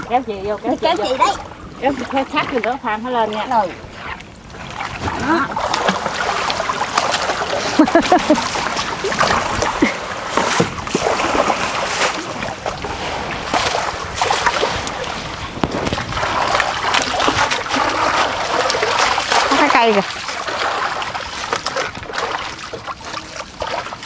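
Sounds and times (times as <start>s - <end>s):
water splashing and trickling: 0.0s - 24.0s
short sharp splashes: 3.3s - 24.0s.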